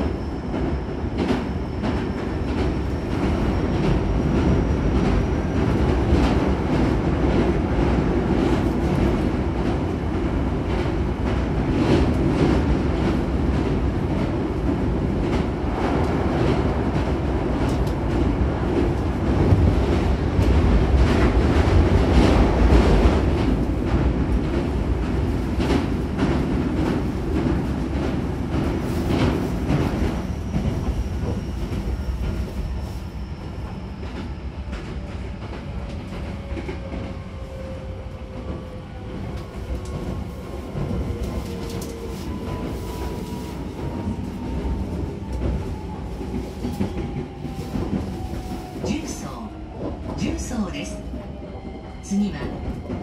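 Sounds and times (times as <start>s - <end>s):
train rumble with rail-joint clicks: 0.0s - 53.0s.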